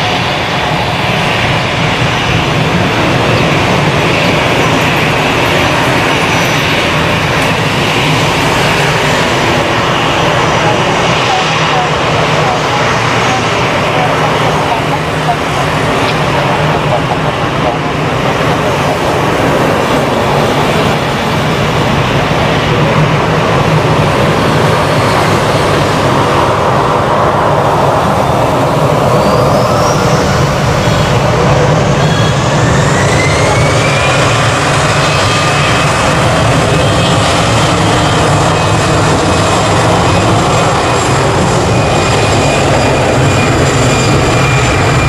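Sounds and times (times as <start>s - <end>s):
jet engine whine: 0.0s - 45.0s
jet engines running: 0.0s - 45.0s.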